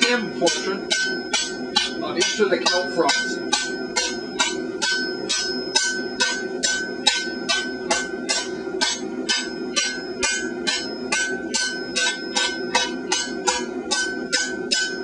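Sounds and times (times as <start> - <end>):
hammer striking steel on anvil: 0.0 - 15.0.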